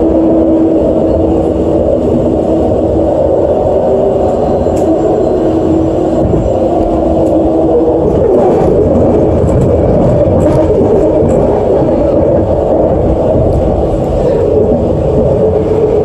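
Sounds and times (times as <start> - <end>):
steady hum: 0.0 - 16.0
train rumble inside car: 0.0 - 16.0.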